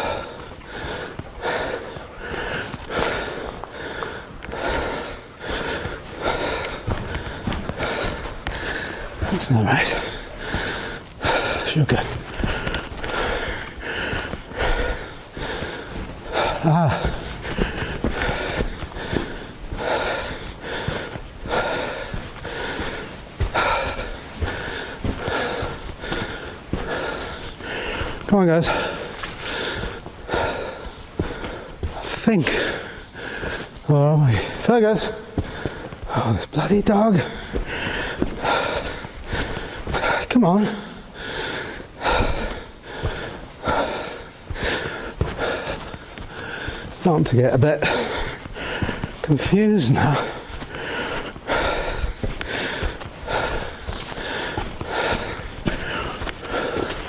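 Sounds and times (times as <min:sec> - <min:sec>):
footsteps on slate floor: 0:00.0 - 0:57.0
man breathing heavily: 0:00.0 - 0:57.0.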